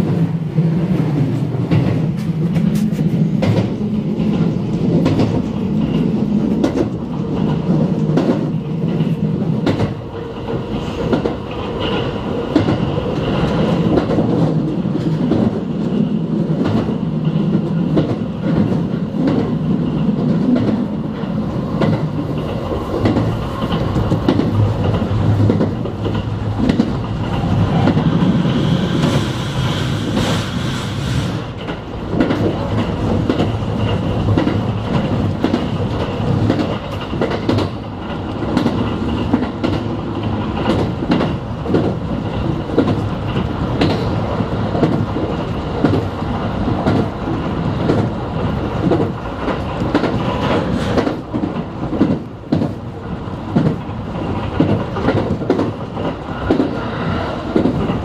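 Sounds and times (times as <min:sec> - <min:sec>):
train wheels rumbling on rail: 0:00.0 - 0:58.0
wheels clicking over rail joints: 0:01.6 - 0:28.3, 0:31.5 - 0:58.0.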